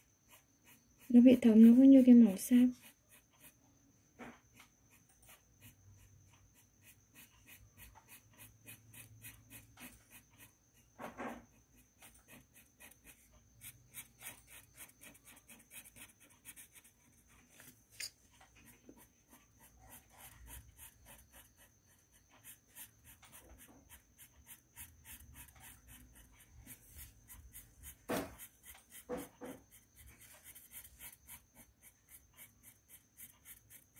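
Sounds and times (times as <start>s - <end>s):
marker scratching on paper: 0.0s - 3.6s, 4.2s - 33.9s.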